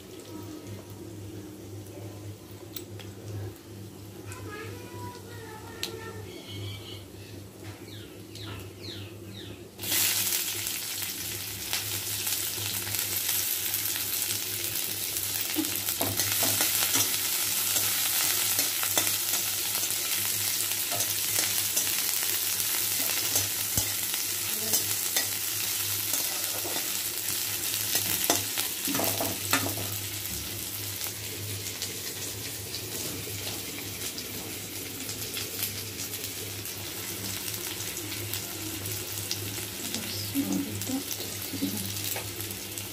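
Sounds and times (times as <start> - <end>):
onions sizzling in hot oil: 0.0 - 7.0, 8.1 - 42.9.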